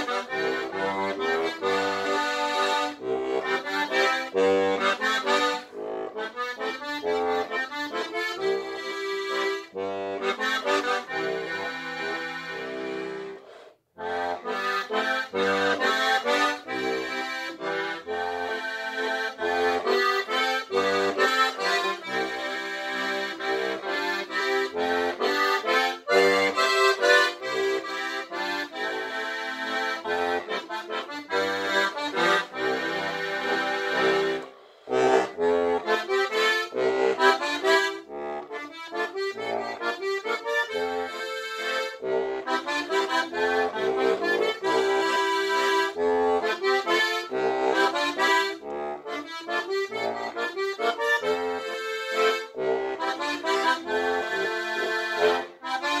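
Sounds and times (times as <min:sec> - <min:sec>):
button accordion waltz: 0:00.0 - 0:56.0.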